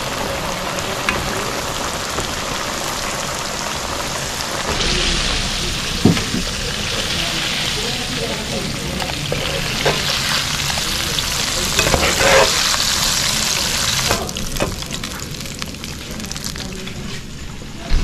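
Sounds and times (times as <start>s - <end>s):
chicken frying in oil: 0.0s - 17.6s.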